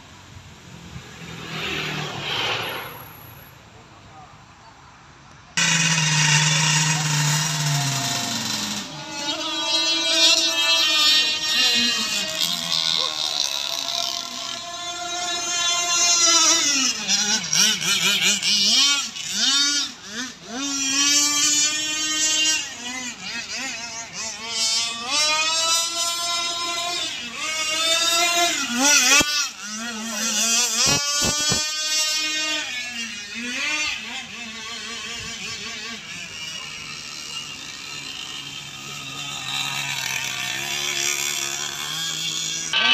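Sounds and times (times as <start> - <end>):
rc boat engines revving: 0.0 - 4.5, 5.3 - 42.9.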